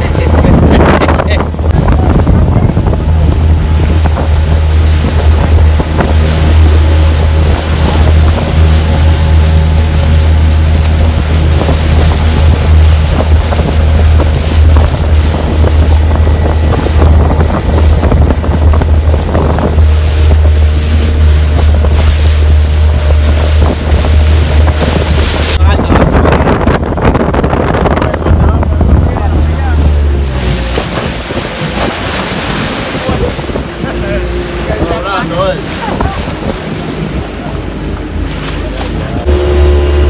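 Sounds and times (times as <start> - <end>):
motorboat engine drone: 0.0 - 40.0
water rushing past hull: 0.0 - 40.0
wind buffeting microphone: 0.0 - 40.0.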